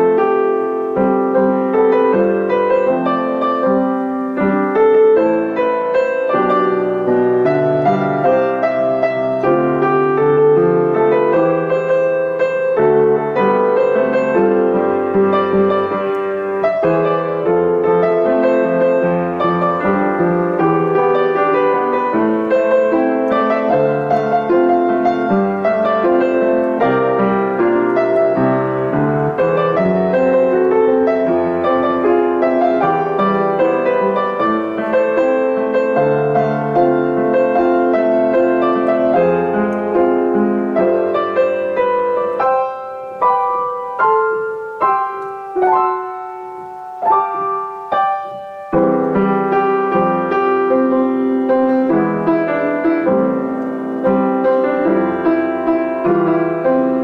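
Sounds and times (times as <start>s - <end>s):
solo piano song: 0.0s - 57.0s.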